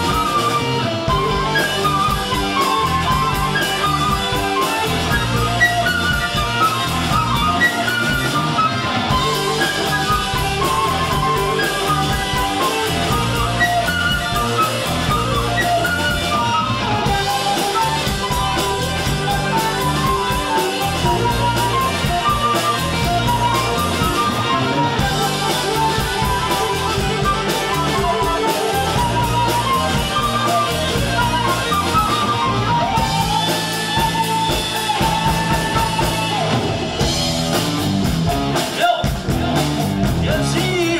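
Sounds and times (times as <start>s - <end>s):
instrumental rock music: 0.0s - 40.9s.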